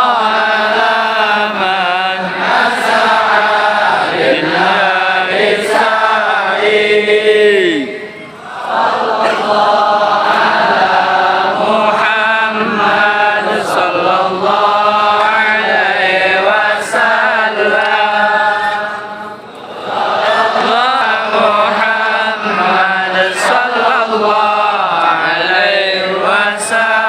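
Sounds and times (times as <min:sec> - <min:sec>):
voices chanting in unison: 0:00.0 - 0:27.0.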